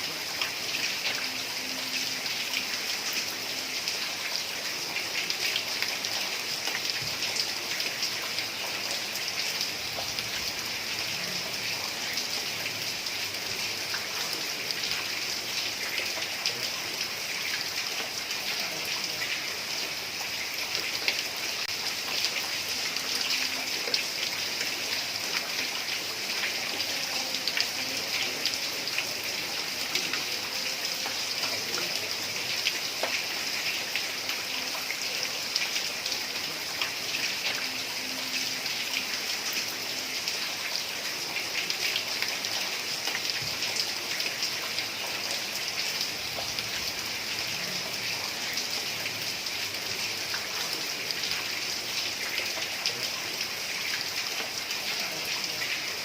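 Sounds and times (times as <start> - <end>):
heavy rain on a tiled roof: 0.0 - 56.0.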